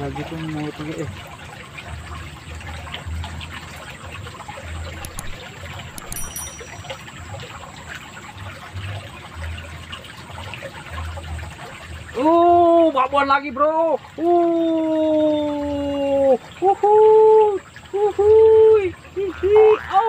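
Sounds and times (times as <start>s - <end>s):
water running in a ditch: 0.0s - 20.0s.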